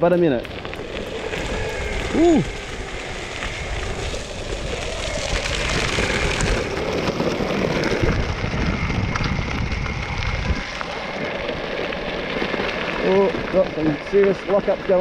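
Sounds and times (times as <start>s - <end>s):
tyres rolling over dirt and gravel: 0.0s - 15.0s.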